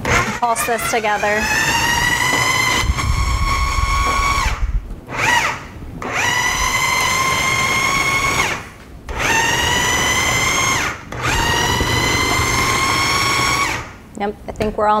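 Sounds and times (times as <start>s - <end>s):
food processor motor whining: 0.0s - 14.0s.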